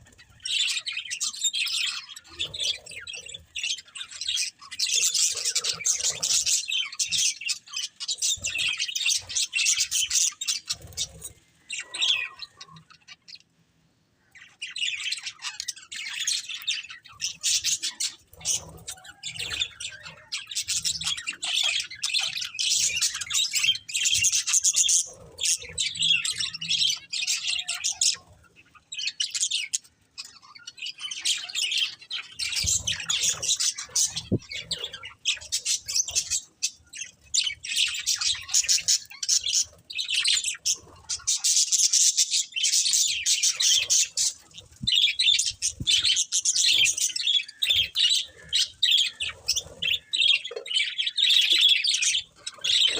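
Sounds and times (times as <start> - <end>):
budgerigars chattering and chirping: 0.0 - 13.6, 14.2 - 52.9.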